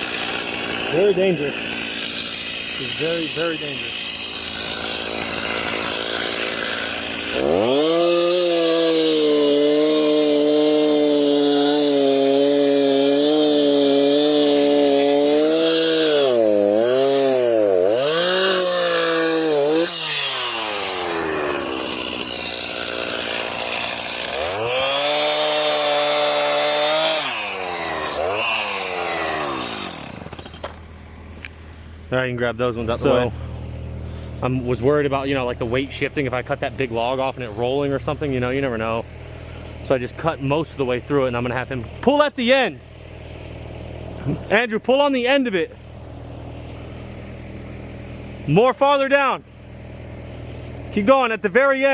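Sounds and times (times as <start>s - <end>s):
chainsaw cutting log: 0.0s - 31.6s, 32.5s - 51.9s.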